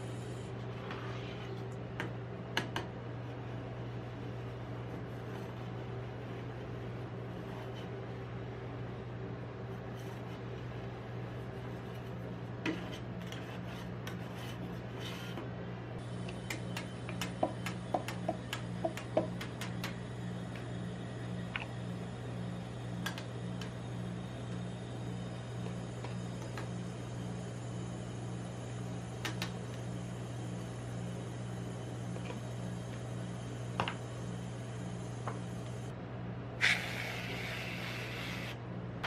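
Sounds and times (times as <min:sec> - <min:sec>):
refrigeration unit humming: 0:00.0 - 0:39.0.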